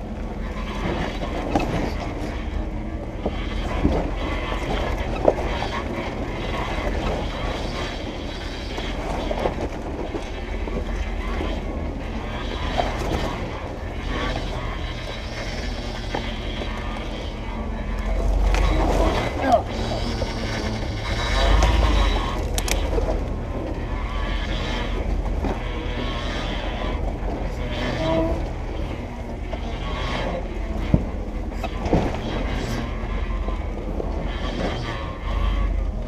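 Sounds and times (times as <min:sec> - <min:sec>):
engine running low hum: 0:00.0 - 0:36.0
tyres and chassis knocking creaking: 0:00.0 - 0:36.0.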